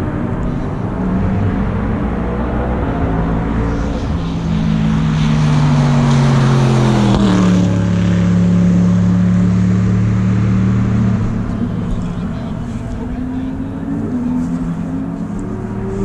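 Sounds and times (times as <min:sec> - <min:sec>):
race car engine passing by: 0:00.0 - 0:16.0.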